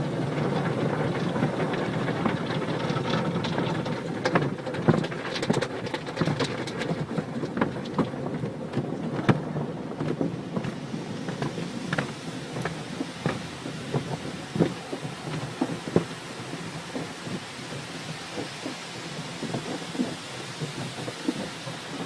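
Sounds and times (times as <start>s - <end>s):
water drips and splats: 0.0s - 22.0s
water spraying: 0.0s - 22.0s.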